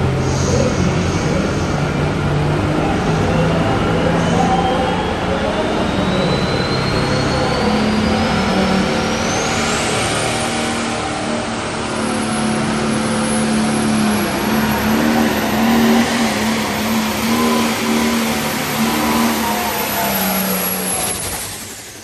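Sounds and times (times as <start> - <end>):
diesel engine running hard: 0.0 - 22.0
high whine climbing in pitch: 0.0 - 22.0.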